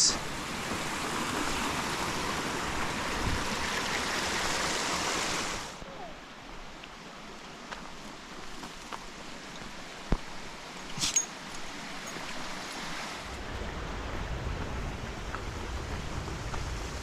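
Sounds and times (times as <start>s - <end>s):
creek running: 0.0s - 16.9s.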